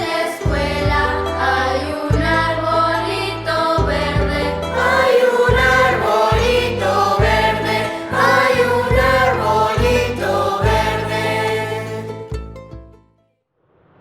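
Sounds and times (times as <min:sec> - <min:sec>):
children's choir singing: 0:00.0 - 0:12.2
low bass notes: 0:00.0 - 0:13.0
instrumental accompaniment: 0:00.0 - 0:13.2.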